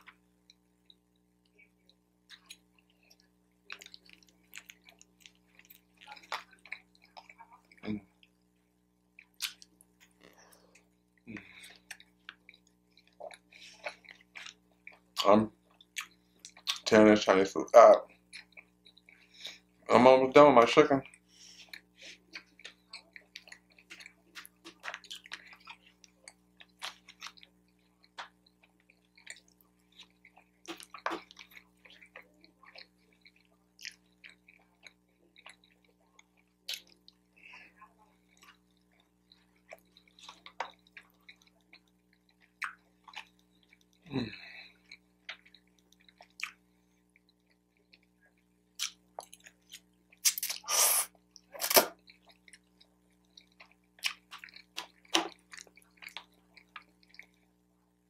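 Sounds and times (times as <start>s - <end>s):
person chewing food: 0.0s - 16.9s, 18.1s - 19.9s, 21.0s - 57.7s.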